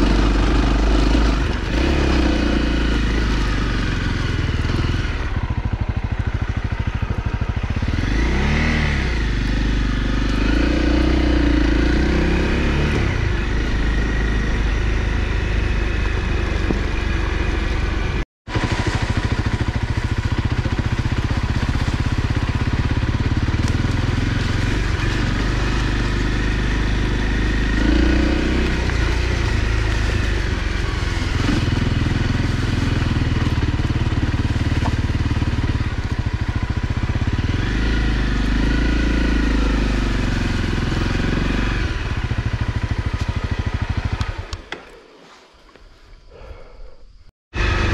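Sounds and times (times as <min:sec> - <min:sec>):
motorcycle engine running: 0:00.0 - 0:44.9, 0:47.5 - 0:47.9.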